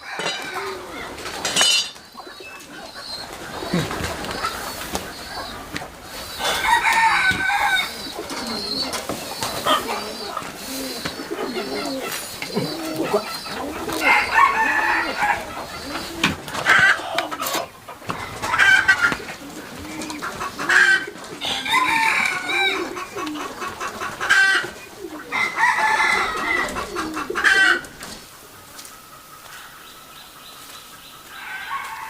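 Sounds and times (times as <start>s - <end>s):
chickens calling loudly: 0.0s - 32.0s
chickens clucking: 0.0s - 32.0s.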